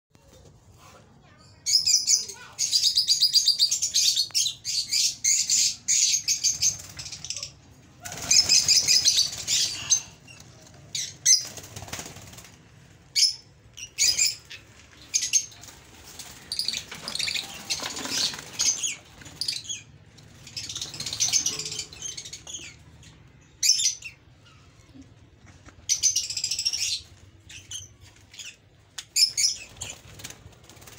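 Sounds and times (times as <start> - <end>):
bird chicks chirping: 1.8 - 12.5, 13.1 - 25.0, 25.8 - 30.9.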